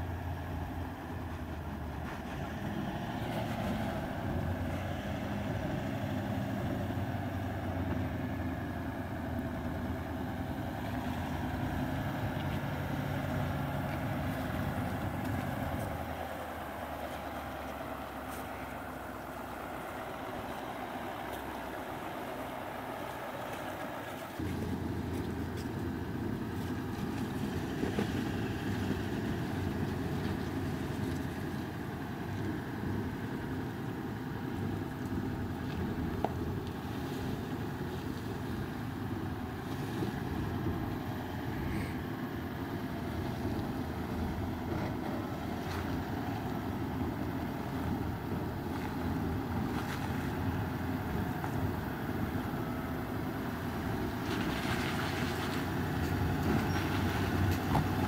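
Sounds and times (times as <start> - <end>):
vehicle engine crawling low: 0.0 - 58.0.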